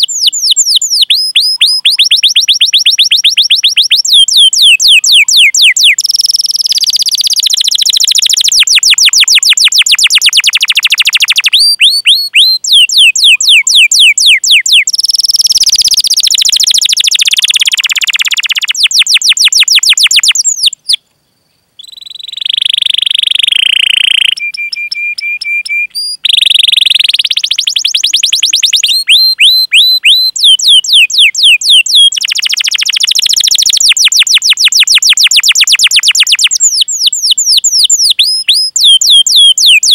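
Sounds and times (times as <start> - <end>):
canary singing: 0.0 - 21.0, 21.8 - 39.9.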